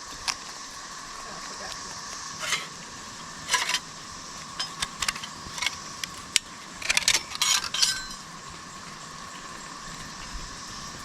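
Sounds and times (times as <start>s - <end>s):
camping gear clicking and rattling: 0.0s - 11.0s.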